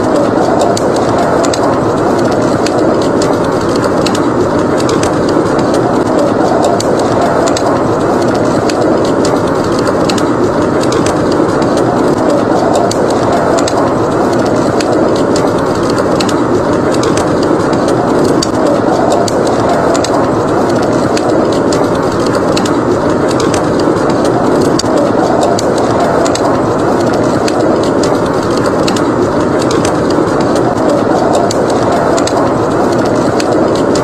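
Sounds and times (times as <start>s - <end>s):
blizzard wind roaring: 0.0s - 34.0s
wood fire crackling: 0.0s - 34.0s.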